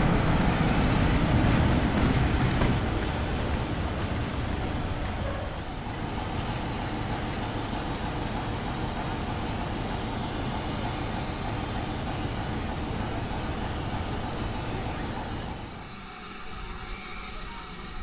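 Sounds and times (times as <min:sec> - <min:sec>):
diesel locomotive engine droning: 0:00.0 - 0:18.0.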